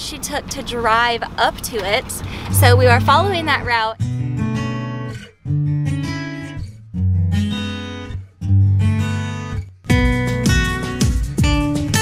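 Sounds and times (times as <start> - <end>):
acoustic guitar strumming chords: 2.3 - 12.0.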